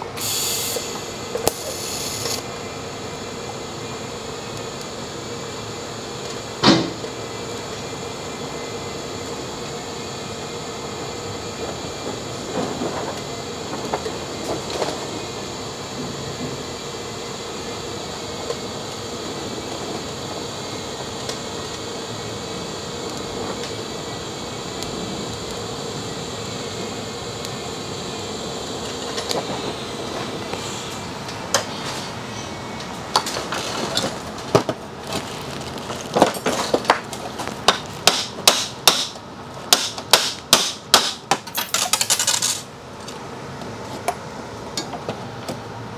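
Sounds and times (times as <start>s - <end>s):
welding arc buzzing: 0.0s - 42.8s.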